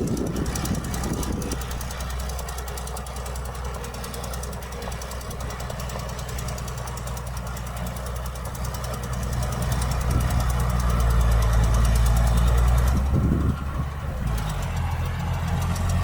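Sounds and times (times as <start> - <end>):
diesel machinery engine clattering: 0.0 - 16.0.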